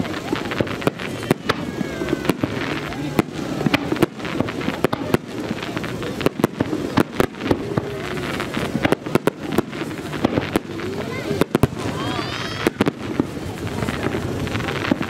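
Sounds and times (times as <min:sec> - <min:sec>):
fireworks bursting with sharp bangs: 0:00.0 - 0:15.0
fireworks rumble and crackle: 0:00.0 - 0:15.0.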